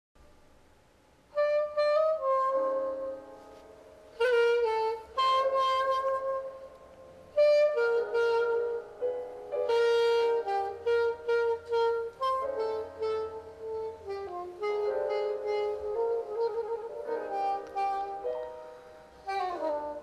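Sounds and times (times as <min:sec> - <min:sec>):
instrumental melody of held notes: 0:01.3 - 0:20.0.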